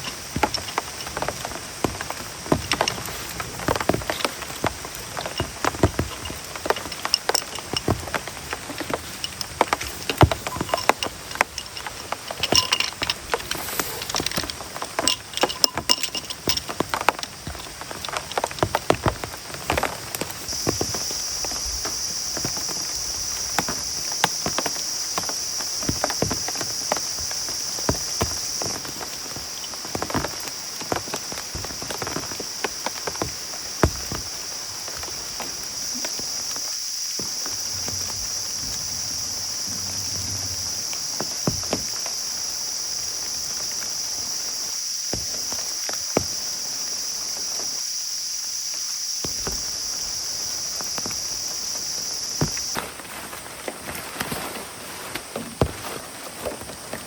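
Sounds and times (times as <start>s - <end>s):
sharp drips and knocks: 0.0s - 46.9s, 49.2s - 57.0s
rain hissing on a surface: 0.0s - 57.0s.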